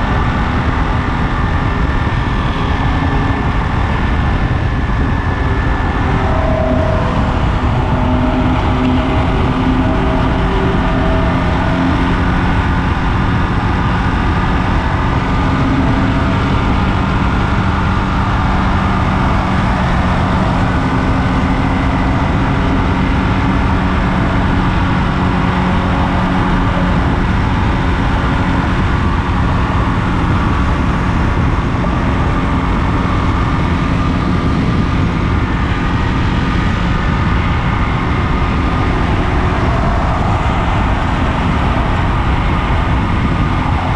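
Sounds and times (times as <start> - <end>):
motorcycle engine cruising: 0.0 - 43.9
wind noise: 0.0 - 43.9.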